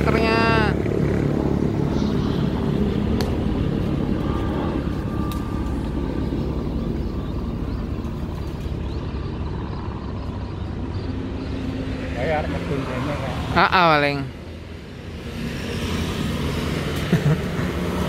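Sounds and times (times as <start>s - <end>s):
helicopter rotor and engine rumble: 0.0s - 15.1s.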